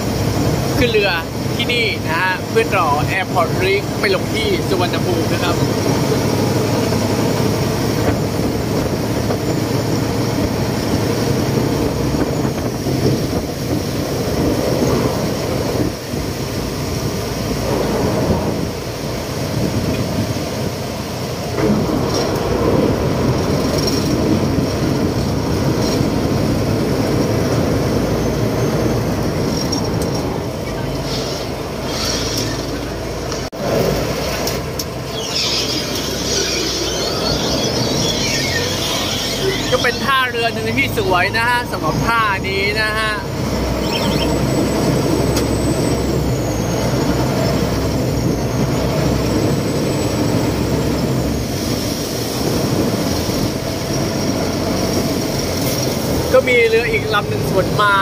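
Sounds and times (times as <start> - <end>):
boat diesel engine running: 0.0 - 58.0.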